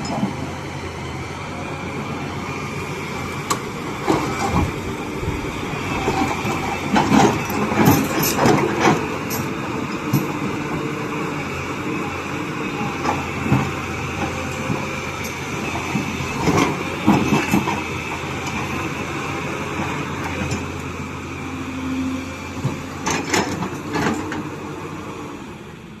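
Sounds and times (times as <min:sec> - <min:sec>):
hydraulic excavator running: 0:00.0 - 0:26.0.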